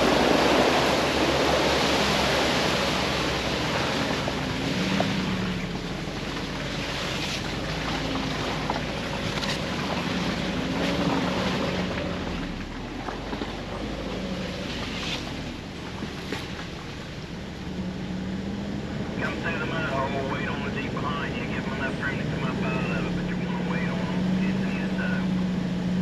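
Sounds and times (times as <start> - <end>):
car engine running at low speed: 0.0 - 26.0.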